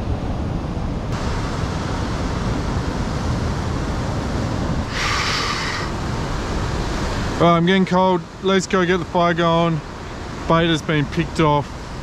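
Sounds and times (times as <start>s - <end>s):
wind rumbling on microphone: 0.0s - 12.0s
ocean swell foaming against rocks: 0.1s - 12.0s.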